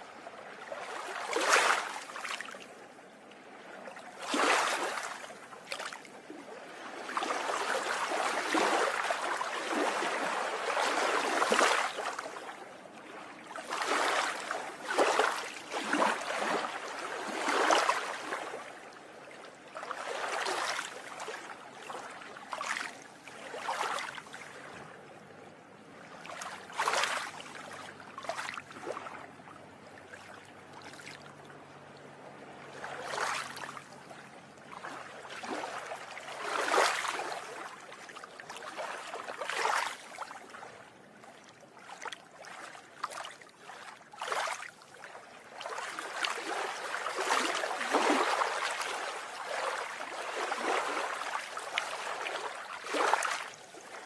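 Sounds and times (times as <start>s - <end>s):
sea waves breaking over seawall: 0.0s - 54.0s.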